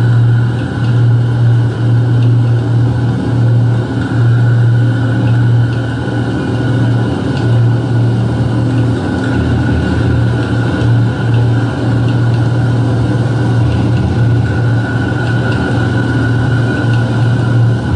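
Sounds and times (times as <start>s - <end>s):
heavy low electronic hum: 0.0s - 17.9s.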